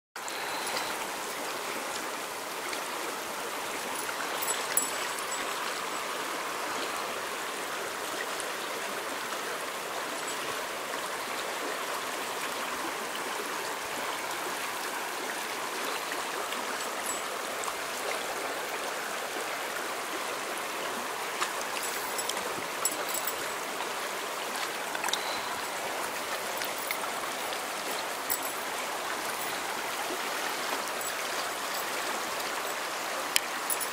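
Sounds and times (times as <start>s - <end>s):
stream babbling over stones: 0.2s - 33.9s.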